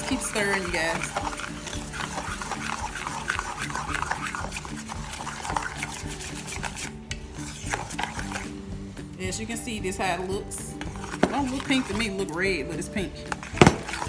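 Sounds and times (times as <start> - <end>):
metal spoon scraping saucepan: 0.0 - 8.6, 10.5 - 14.0.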